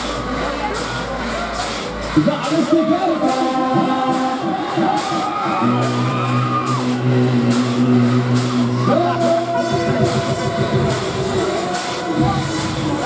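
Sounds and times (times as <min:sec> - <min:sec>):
dance music with sung vocal: 0:00.0 - 0:13.0.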